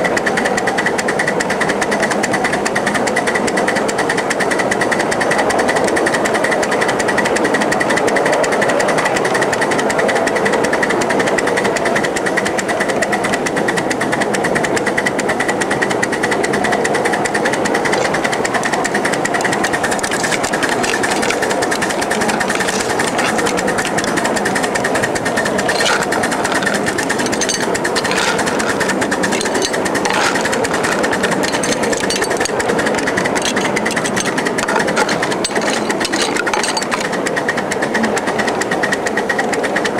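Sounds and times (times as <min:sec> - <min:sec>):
model steam locomotive clattering: 0:00.0 - 0:39.9.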